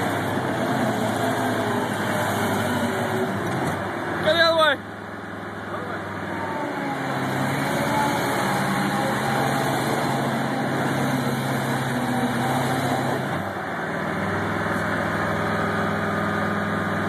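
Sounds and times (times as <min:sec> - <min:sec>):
vehicle engine running under load: 0:00.0 - 0:17.0.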